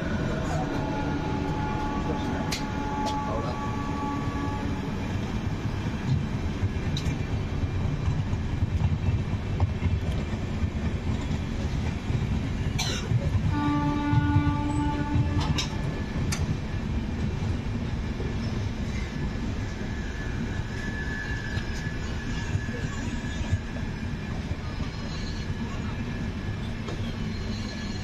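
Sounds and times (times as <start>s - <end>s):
train coaches rumbling past: 0.0s - 28.0s.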